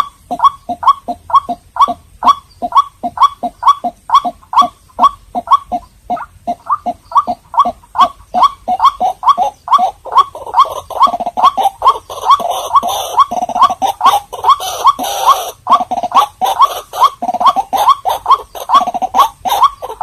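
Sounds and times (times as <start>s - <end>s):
waterhen calling: 0.0s - 20.0s.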